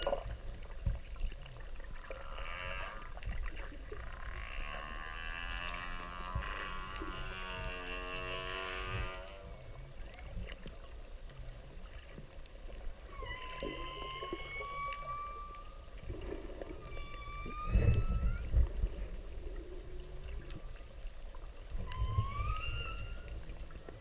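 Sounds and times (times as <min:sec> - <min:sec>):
whale calls: 0:01.9 - 0:10.3, 0:13.0 - 0:24.0.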